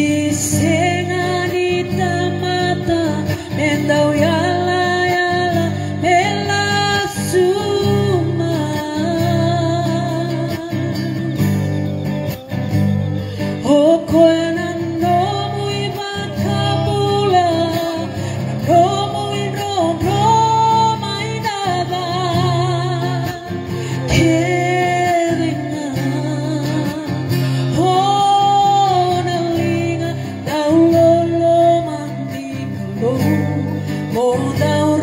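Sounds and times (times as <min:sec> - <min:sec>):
woman singing gospel: 0:00.0 - 0:11.3, 0:13.6 - 0:35.0
amplified acoustic guitar: 0:00.0 - 0:35.0.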